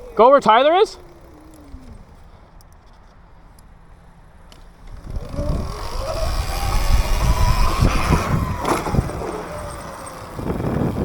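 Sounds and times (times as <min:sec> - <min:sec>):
dirt bike engine at full throttle: 0:00.0 - 0:02.7, 0:03.4 - 0:11.0.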